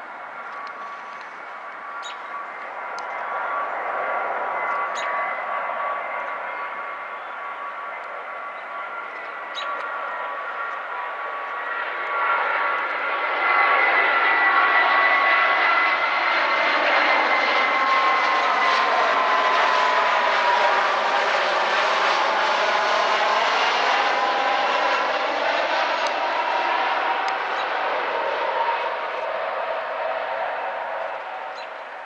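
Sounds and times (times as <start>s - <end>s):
jet engine whine: 0.0s - 32.0s
jet engines roaring overhead: 0.0s - 32.0s.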